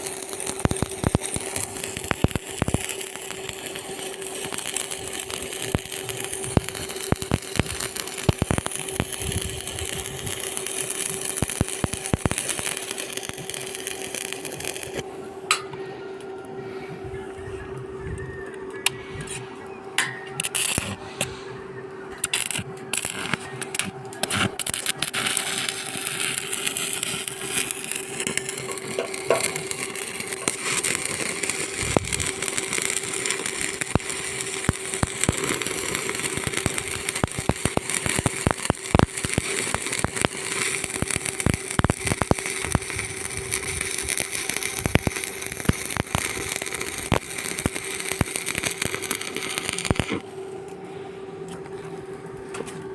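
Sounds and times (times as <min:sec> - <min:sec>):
arc welding crackle: 0:00.0 - 0:15.0, 0:20.0 - 0:50.8
welder hum: 0:00.0 - 0:52.9.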